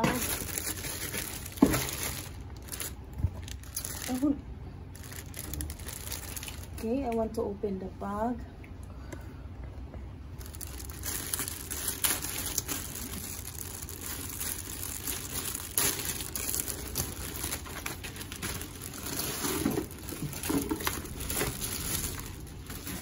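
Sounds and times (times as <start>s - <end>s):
plastic wrapping crinkling: 0.0s - 7.3s, 10.4s - 23.0s.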